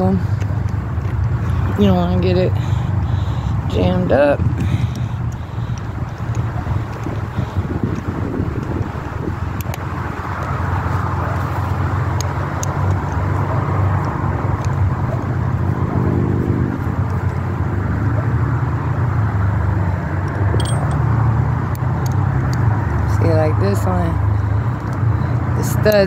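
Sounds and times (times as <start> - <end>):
low motor rumble: 0.0 - 26.0.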